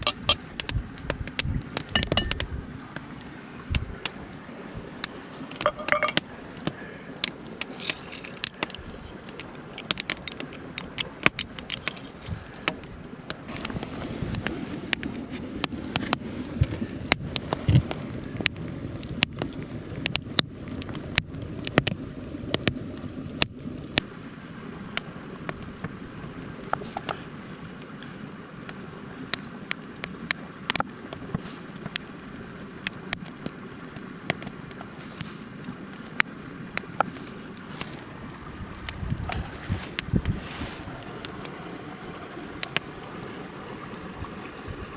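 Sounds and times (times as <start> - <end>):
wood fire crackling and popping: 0.0 - 4.2, 5.0 - 44.4
mountain stream rushing: 1.6 - 44.9.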